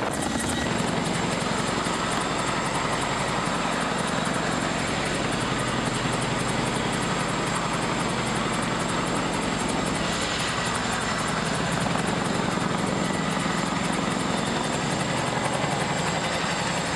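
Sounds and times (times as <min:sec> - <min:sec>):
helicopter rotor beat: 0:00.0 - 0:16.9
turbine whine: 0:00.0 - 0:16.9.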